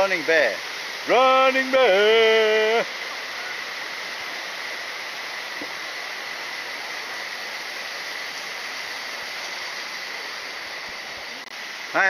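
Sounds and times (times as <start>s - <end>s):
fast-flowing stream water: 0.0s - 12.0s.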